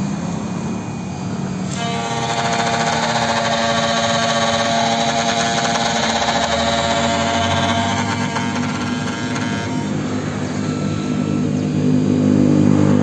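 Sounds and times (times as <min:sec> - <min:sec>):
key-cutting machine whine: 0:00.0 - 0:13.0.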